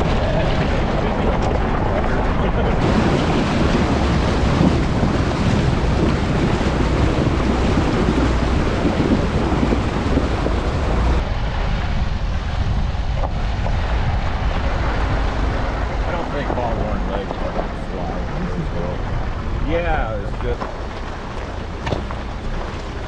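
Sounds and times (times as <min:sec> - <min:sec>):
loud rushing noise: 0:00.0 - 0:20.2
wind buffeting microphone: 0:00.0 - 0:23.0.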